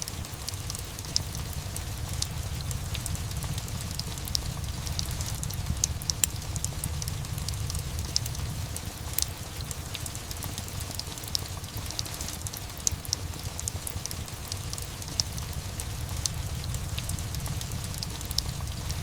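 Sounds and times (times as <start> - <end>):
fireplace crackling and popping: 0.0 - 19.0
steady rain: 0.0 - 19.0.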